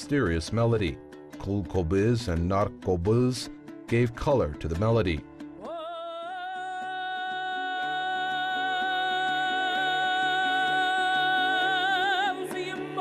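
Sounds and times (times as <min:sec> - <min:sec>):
rhythmic string accompaniment: 0:00.0 - 0:13.0.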